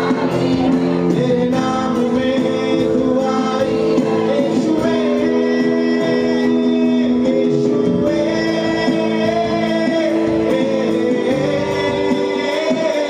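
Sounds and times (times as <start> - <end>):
electronic keyboard chords: 0.0 - 13.0
man singing into a microphone: 0.0 - 13.0.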